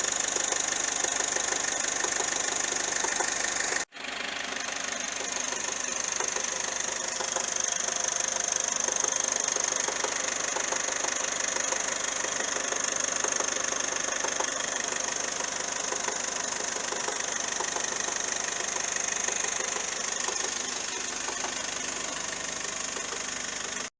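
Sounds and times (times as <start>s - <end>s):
car engine idling with whine: 0.0s - 23.9s.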